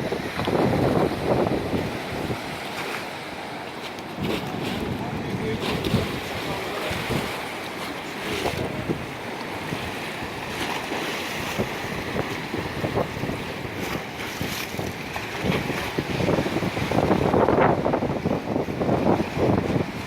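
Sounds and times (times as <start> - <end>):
ocean waves: 0.0 - 20.0
wind buffeting microphone: 0.0 - 20.0.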